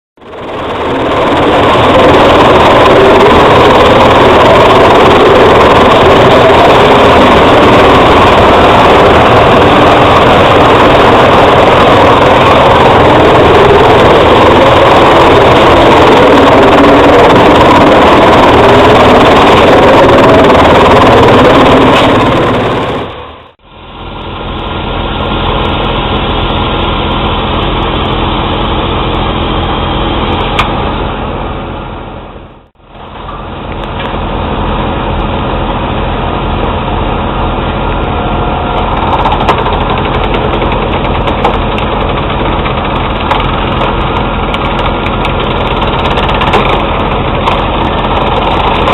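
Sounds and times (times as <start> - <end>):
wood chipper running: 0.2 - 48.9.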